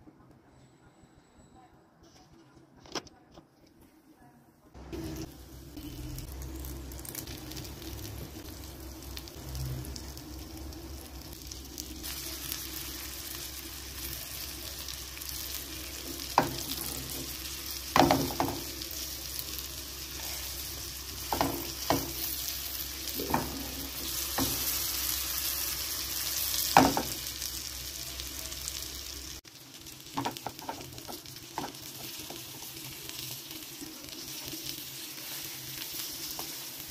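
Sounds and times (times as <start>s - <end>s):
fish frying in oil sizzling: 4.9s - 36.9s.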